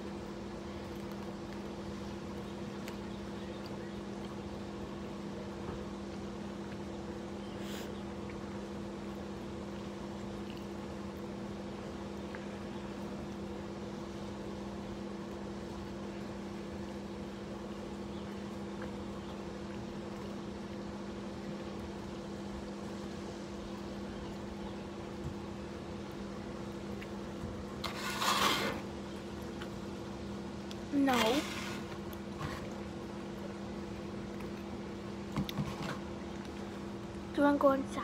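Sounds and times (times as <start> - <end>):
low machine hum: 0.0 - 38.0.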